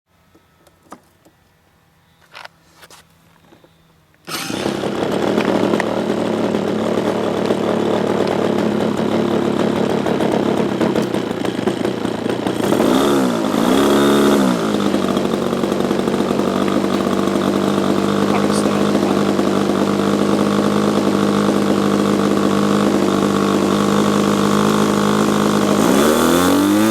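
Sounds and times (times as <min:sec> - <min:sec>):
model plane engine running: 0:04.2 - 0:26.9.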